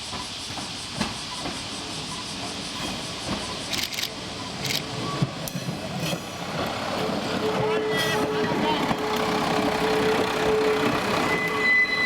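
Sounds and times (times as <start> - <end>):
train hiss: 0.0 - 12.0.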